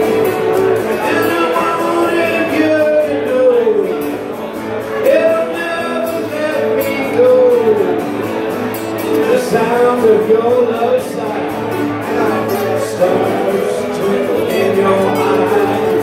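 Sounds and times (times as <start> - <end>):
acoustic guitar strumming: 0.0 - 16.0
man singing into a microphone: 0.0 - 16.0.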